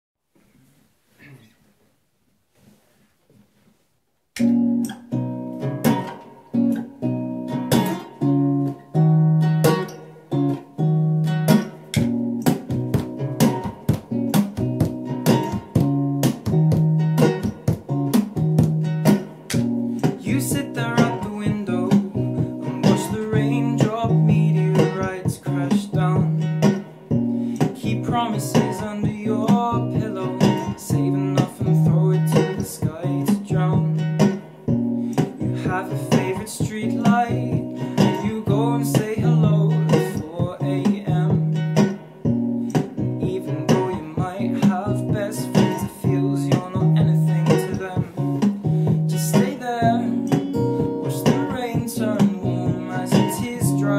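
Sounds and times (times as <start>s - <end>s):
acoustic guitar strumming and plucking: 4.4s - 53.9s.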